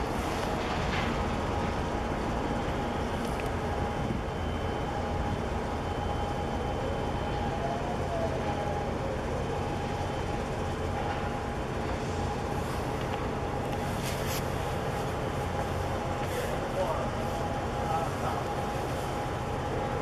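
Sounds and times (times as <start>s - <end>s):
ship engine droning: 0.0s - 20.0s.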